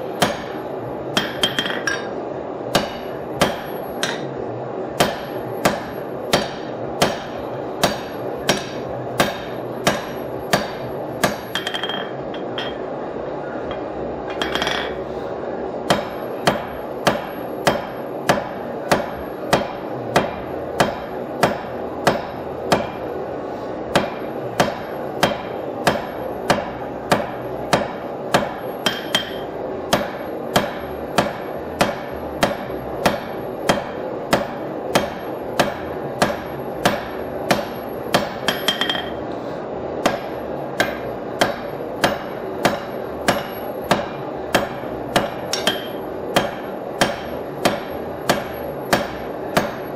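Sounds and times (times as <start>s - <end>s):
hammer striking metal on anvil: 0.1s - 4.3s, 5.0s - 12.9s, 13.7s - 15.0s, 15.9s - 23.1s, 23.9s - 39.2s, 40.0s - 49.9s.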